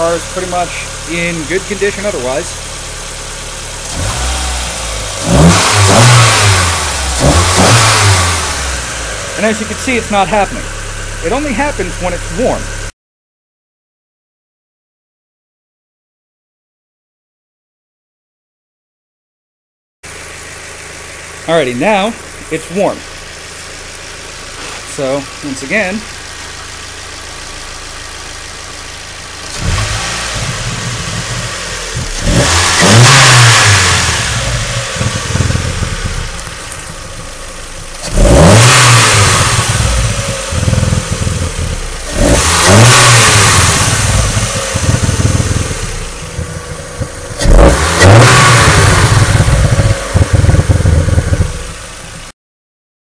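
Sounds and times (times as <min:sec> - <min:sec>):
car engine idling and revving: 0:00.0 - 0:12.9, 0:20.0 - 0:52.3.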